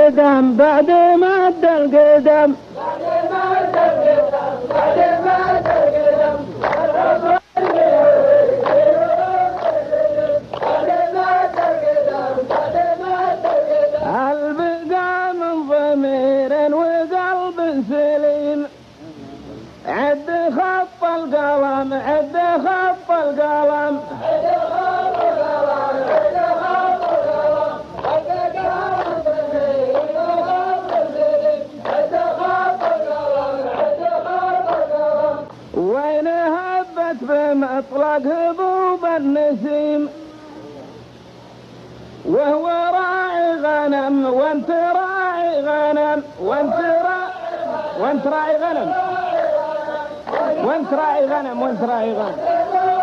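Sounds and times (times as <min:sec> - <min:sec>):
men chanting in unison: 0:00.0 - 0:18.8, 0:19.9 - 0:40.8, 0:42.2 - 0:53.0.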